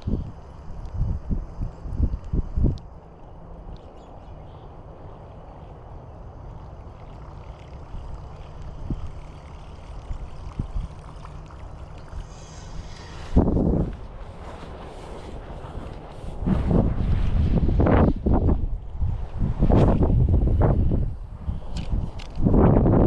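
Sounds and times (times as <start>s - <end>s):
wind buffeting microphone: 0.0s - 2.9s, 6.4s - 23.0s.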